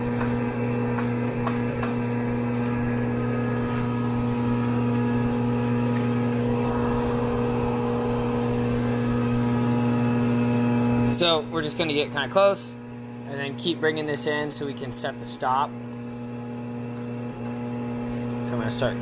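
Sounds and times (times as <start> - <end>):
electric motor hum: 0.0 - 19.0.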